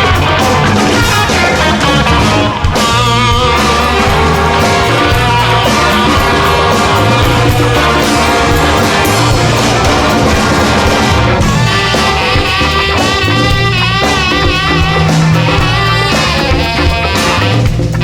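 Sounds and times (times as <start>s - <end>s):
bass guitar: 0.0s - 18.0s
drums: 0.0s - 18.0s
electric guitar: 0.0s - 18.0s.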